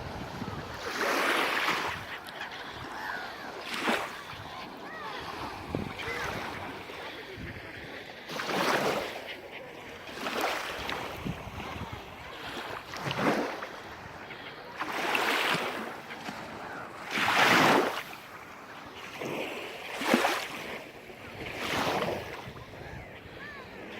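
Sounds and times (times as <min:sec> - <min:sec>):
small waves breaking on shore: 0:00.0 - 0:23.9.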